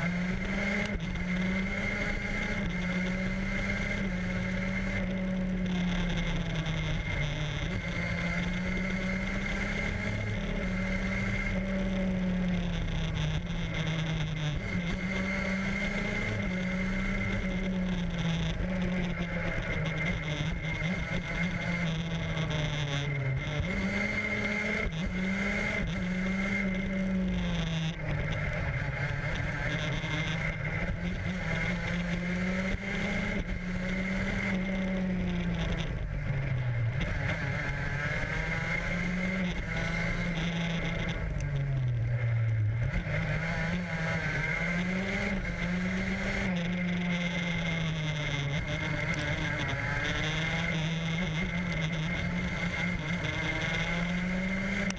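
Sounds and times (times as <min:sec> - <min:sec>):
racing engine revving: 0:00.0 - 0:54.9.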